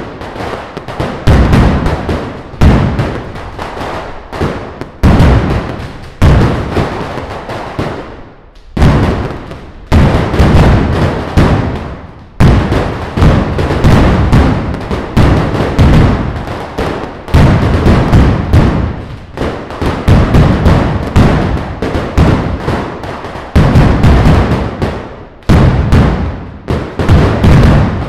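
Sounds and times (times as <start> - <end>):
firecrackers exploding in volleys: 0.0 - 28.0.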